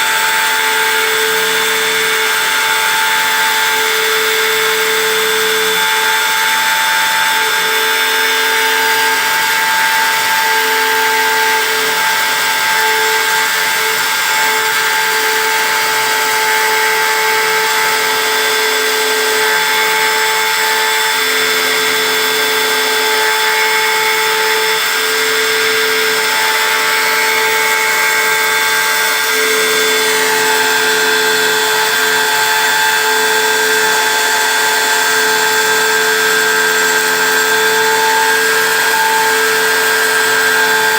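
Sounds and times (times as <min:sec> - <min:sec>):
motor whines: 0:00.0 - 0:40.9.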